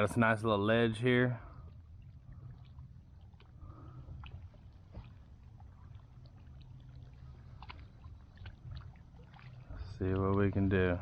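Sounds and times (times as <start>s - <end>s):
steady low hum: 0.0s - 11.0s
water lapping: 0.0s - 11.0s.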